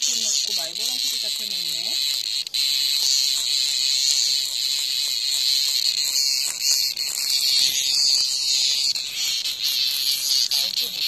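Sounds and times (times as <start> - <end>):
cicada buzzing: 0.0 - 11.0.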